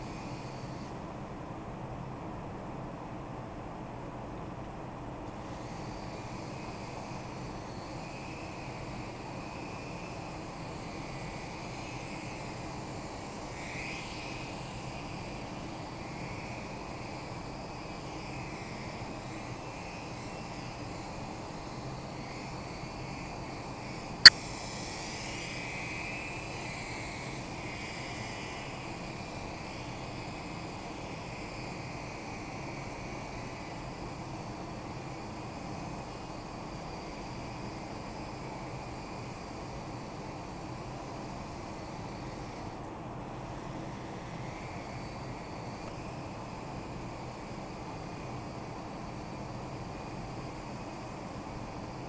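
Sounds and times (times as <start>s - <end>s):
toy helicopter motor whine: 0.0s - 1.0s, 5.3s - 52.0s.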